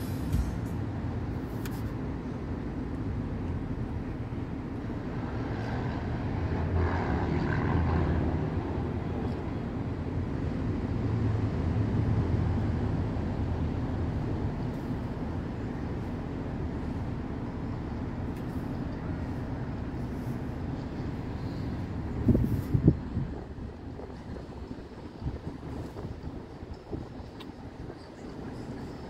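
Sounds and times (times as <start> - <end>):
vehicle engine and tyres droning: 0.0 - 29.0.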